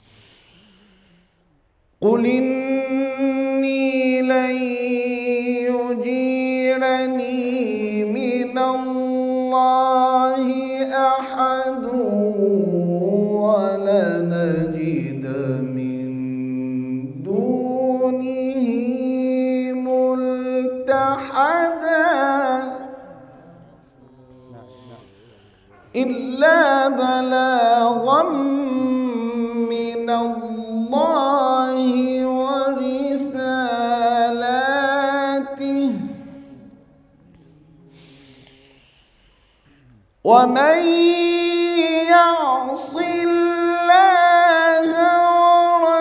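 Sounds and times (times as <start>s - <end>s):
man reciting melodically: 1.9s - 46.0s.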